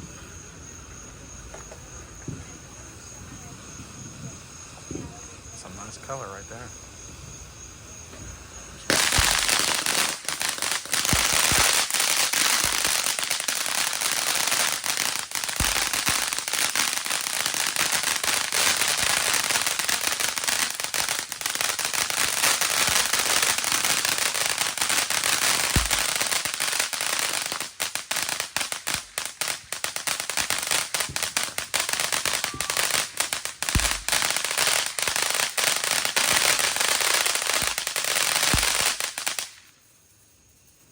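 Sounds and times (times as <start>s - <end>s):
firework fountain hissing and crackling: 0.0s - 40.0s.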